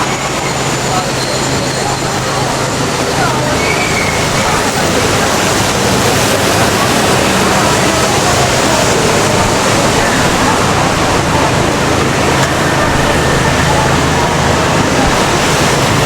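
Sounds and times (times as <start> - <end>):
city street noise: 0.0 - 16.0
murmur of voices: 0.0 - 16.0.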